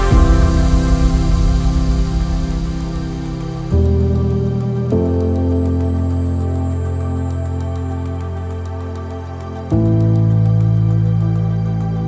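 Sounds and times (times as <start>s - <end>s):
sustained held chord: 0.0s - 12.0s.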